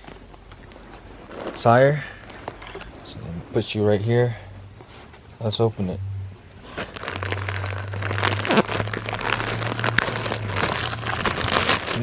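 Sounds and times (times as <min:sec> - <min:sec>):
plastic bag crinkling: 0:00.0 - 0:05.1, 0:06.6 - 0:12.0.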